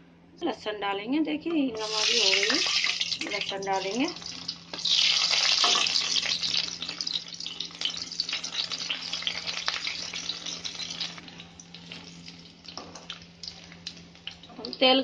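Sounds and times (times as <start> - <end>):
garlic sizzling in hot oil: 1.8 - 15.0.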